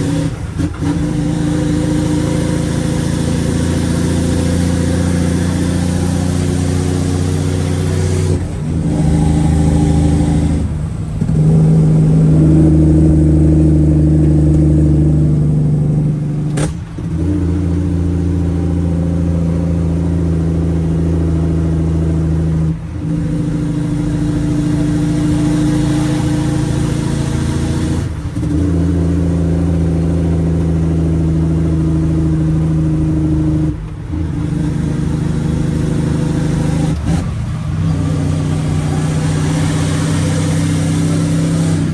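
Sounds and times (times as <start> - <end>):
diesel truck engine running: 0.0 - 41.9.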